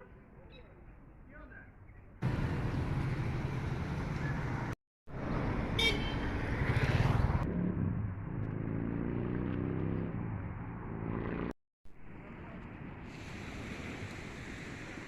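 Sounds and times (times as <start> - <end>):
road traffic: 2.2 - 15.0.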